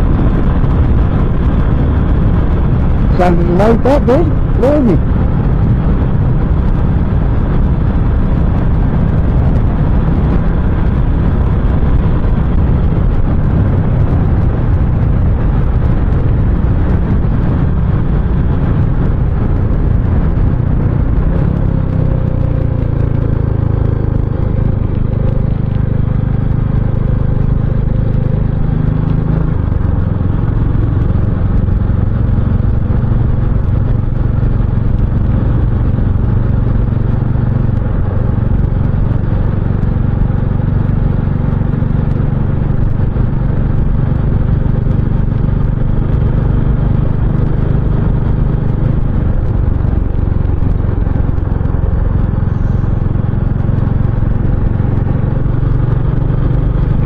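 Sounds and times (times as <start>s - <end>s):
low rumble: 0.0s - 57.0s
motorcycle engine running: 0.0s - 57.0s.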